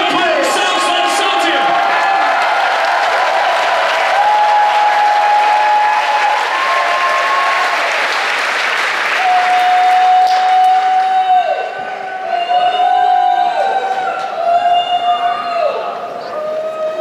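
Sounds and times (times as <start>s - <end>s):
crowd cheering: 0.0s - 17.0s
crowd applauding: 0.1s - 14.4s.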